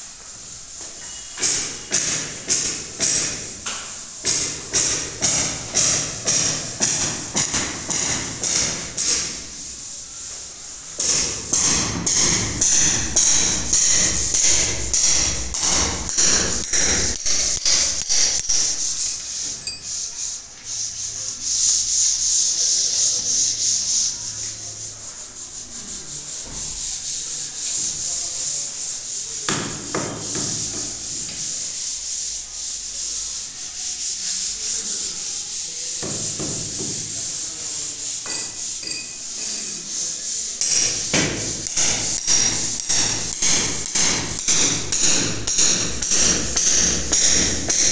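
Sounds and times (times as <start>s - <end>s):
rubbing or scraping strokes: 4.0s - 47.9s.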